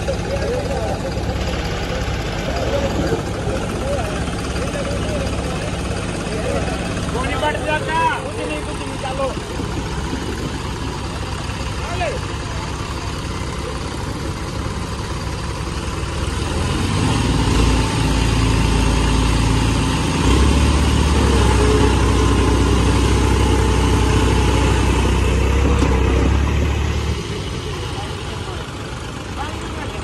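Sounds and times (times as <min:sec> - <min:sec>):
tractor diesel engines under load: 0:00.0 - 0:30.0.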